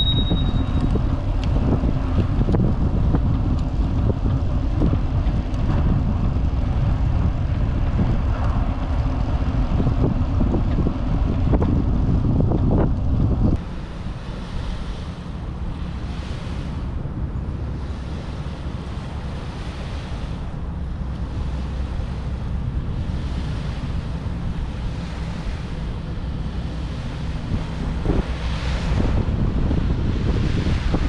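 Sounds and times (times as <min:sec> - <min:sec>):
wind buffeting camera: 0:00.0 - 0:31.0.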